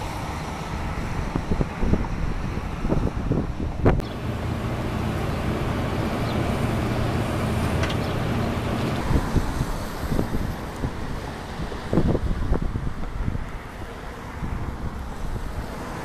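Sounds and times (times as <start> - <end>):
wind buffeting microphone: 0.3 - 16.0.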